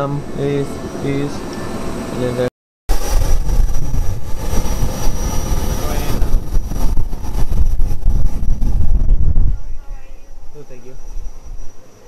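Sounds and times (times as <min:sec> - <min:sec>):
high engine whine: 0:00.0 - 0:12.0
jet engines rumbling: 0:00.0 - 0:12.0.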